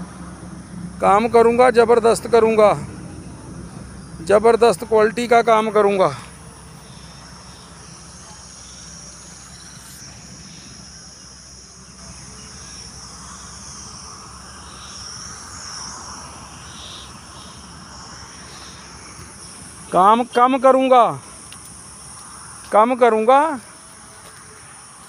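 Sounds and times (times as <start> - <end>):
low steady rumble: 0.0 - 22.7
crickets chirring: 0.0 - 25.0.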